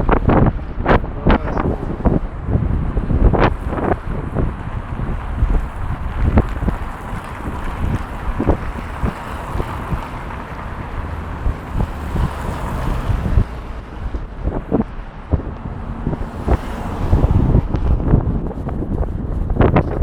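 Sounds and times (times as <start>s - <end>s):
strong gusty wind on microphone: 0.0s - 20.0s.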